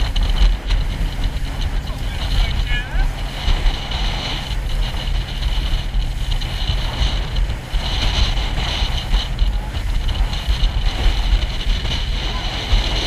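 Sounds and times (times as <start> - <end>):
boat engine hum: 0.0 - 13.0
water rushing: 0.0 - 13.0
wind buffeting microphone: 0.0 - 13.0.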